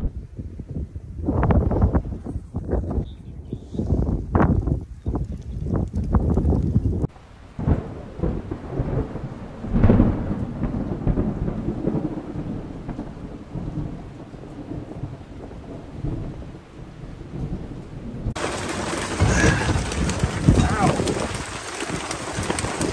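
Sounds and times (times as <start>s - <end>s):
thunder rumbling: 0.0s - 22.9s.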